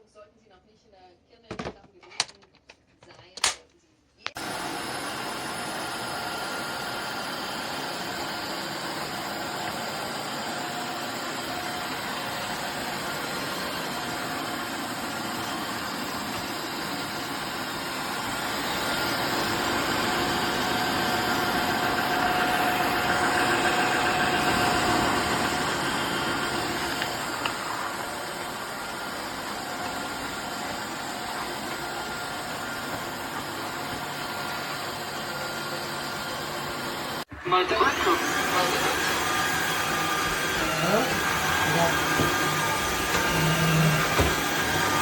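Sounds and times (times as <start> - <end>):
floor cleaner motor whirring: 4.3 - 45.0.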